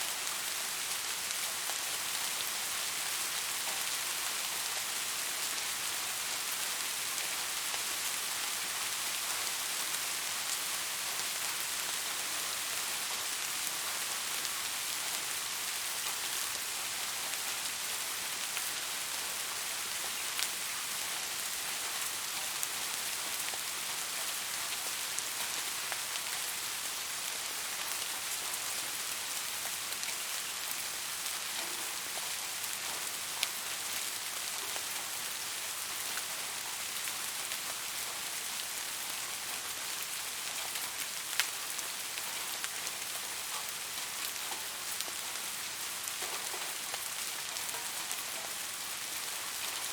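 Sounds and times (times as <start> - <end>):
soft rain hiss: 0.0 - 49.9.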